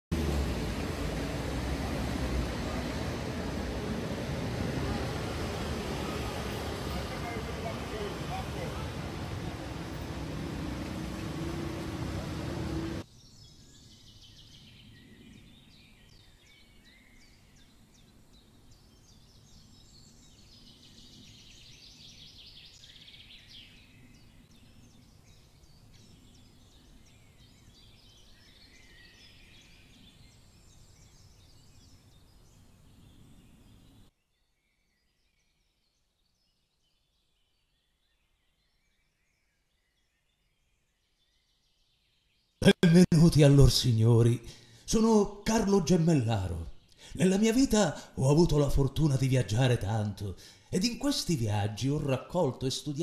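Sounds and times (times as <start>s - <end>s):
small birds chirping: 0.2s - 53.0s.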